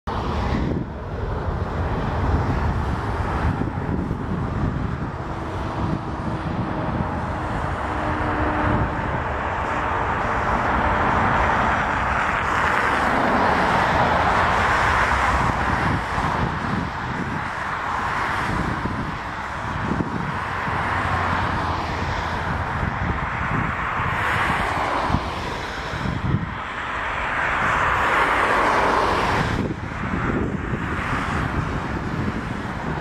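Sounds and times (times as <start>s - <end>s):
jet engines roaring: 0.1s - 33.0s.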